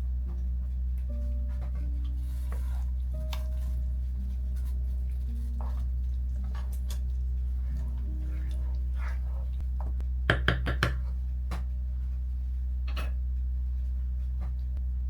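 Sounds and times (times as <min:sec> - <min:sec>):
low hum: 0:00.0 - 0:10.3, 0:11.0 - 0:15.0
soft background music: 0:00.0 - 0:15.0.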